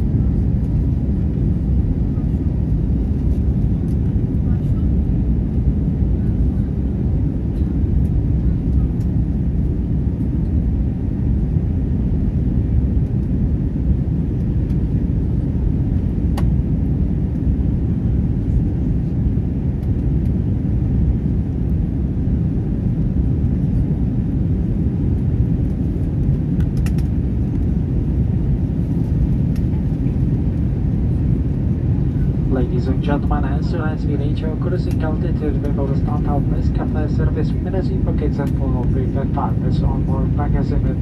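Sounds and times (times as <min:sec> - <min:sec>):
airliner cabin rumble: 0:00.0 - 0:41.0.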